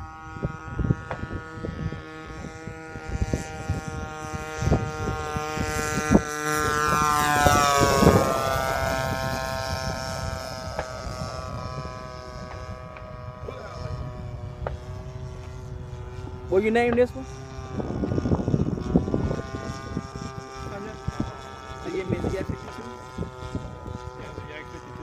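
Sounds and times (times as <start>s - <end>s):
model airplane engine fly-by: 0.0s - 25.0s
wind buffeting microphone: 0.0s - 25.0s.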